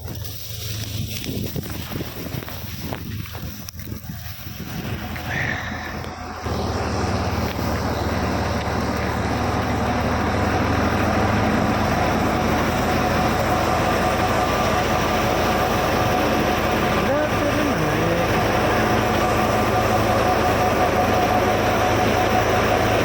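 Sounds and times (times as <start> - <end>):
threshing drum rushing noise: 0.0 - 23.0
tractor engine under load: 0.0 - 23.0.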